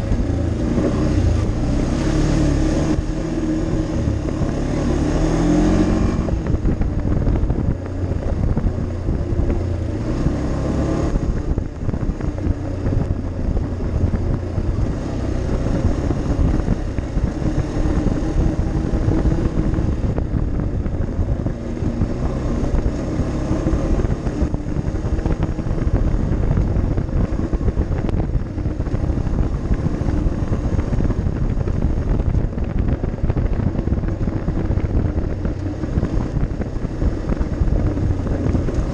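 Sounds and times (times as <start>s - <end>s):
quad bike engine running: 0.0s - 38.9s
wind buffeting microphone: 0.0s - 38.9s.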